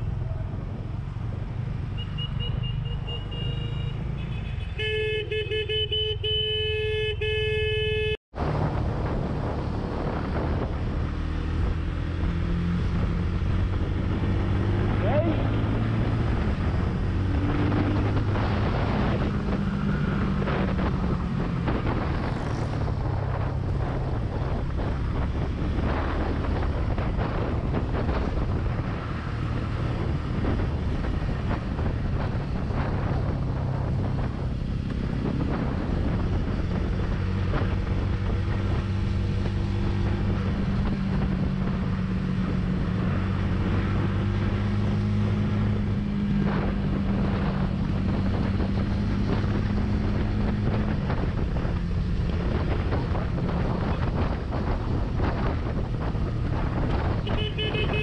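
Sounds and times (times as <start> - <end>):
wind rushing over microphone: 8.3 - 58.0.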